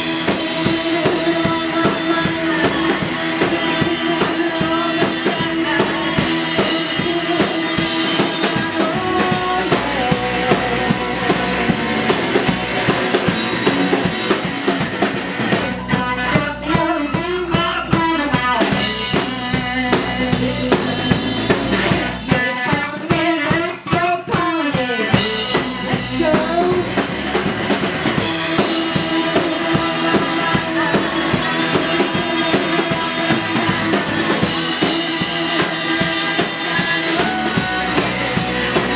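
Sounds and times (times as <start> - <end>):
drum kit: 0.0 - 38.9
live rock band playing: 0.0 - 38.9.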